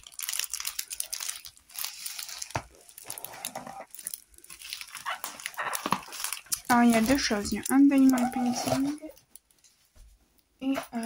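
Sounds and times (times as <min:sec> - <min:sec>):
plastic wrapping crinkling: 0:00.0 - 0:09.9.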